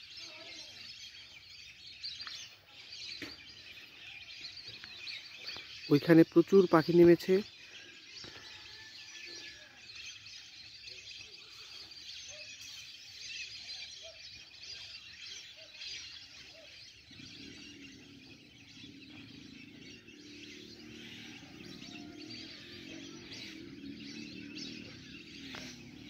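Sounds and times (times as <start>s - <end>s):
chorus of birds twittering: 0.0s - 26.0s.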